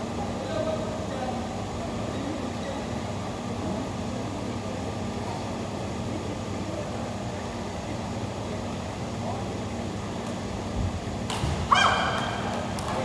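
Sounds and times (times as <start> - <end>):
low background hum and rumble: 0.0 - 13.0.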